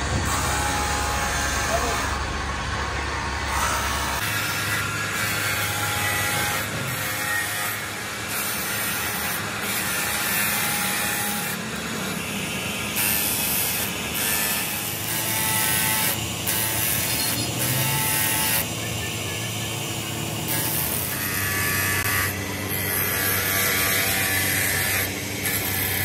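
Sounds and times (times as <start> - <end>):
workshop noise hiss: 0.0 - 26.0.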